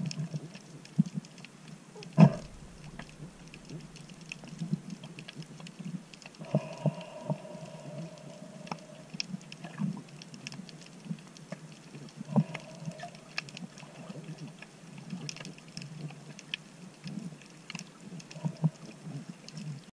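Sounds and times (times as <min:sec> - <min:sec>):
sharp clicks and crackles: 0:00.0 - 0:19.9
underwater rumble: 0:00.0 - 0:19.9.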